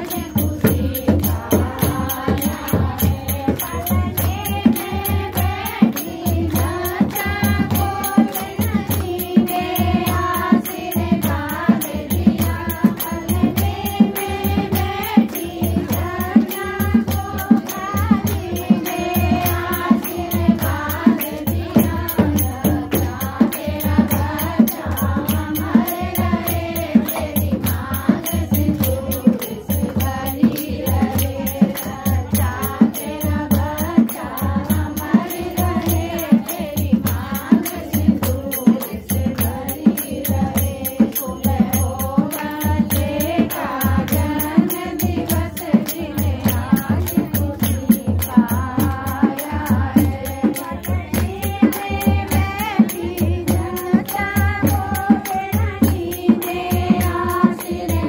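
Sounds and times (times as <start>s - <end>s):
hand clapping: 0.0s - 58.0s
women singing folk song: 0.0s - 58.0s.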